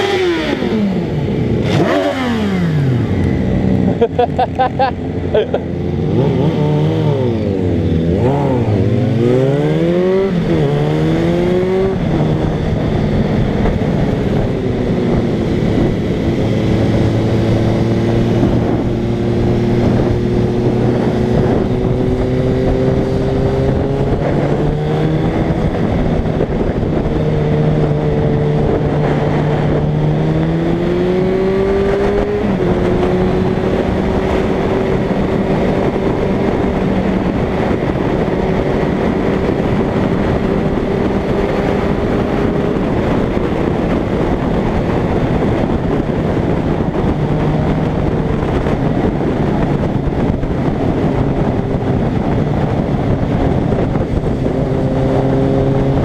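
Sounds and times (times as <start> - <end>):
motorcycle engine shifting gears: 0.0 - 56.0
wind rushing over microphone: 0.0 - 56.0.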